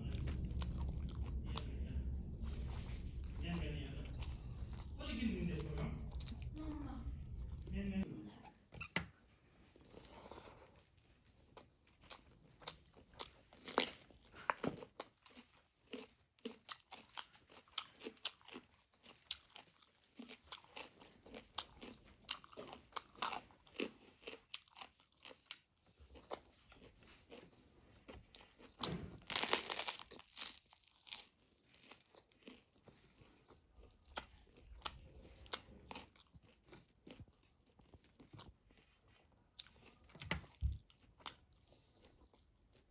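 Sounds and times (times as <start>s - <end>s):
person chewing crunchy food: 0.0s - 7.8s, 9.6s - 42.9s.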